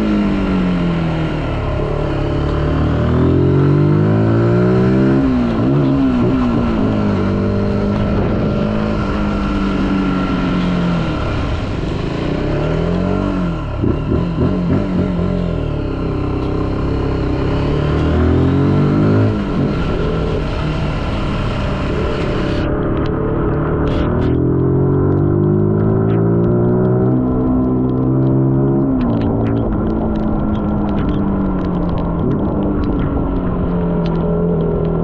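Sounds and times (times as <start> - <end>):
motorcycle engine running: 0.0 - 28.3.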